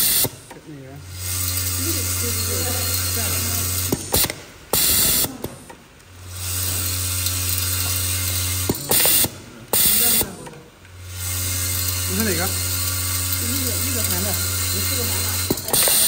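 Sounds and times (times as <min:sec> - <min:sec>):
bowl feeder electromagnetic hum: 0:00.0 - 0:16.0.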